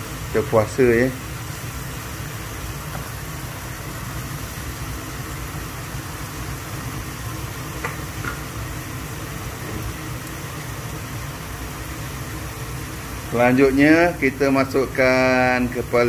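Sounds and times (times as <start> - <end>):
curry paste sizzling in oil: 0.0 - 16.0.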